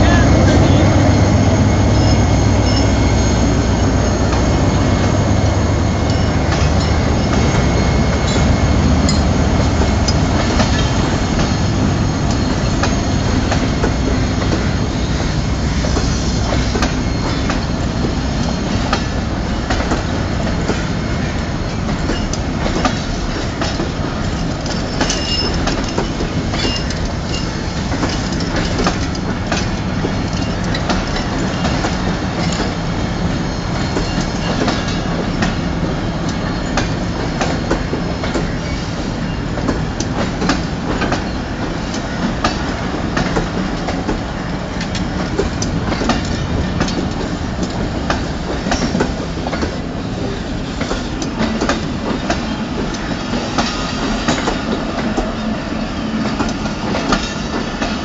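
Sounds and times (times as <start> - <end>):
diesel locomotive engine hum: 0.0 - 58.0
rumble of rolling coaches: 0.0 - 58.0
train wheels clicking over rail joints: 5.8 - 58.0.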